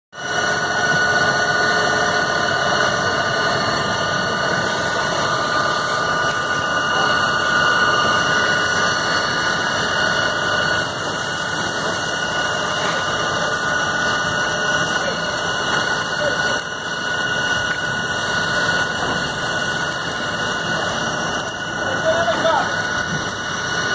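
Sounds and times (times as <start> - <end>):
constant high whine: 0.2 - 23.9
fire truck engine running: 0.2 - 23.9.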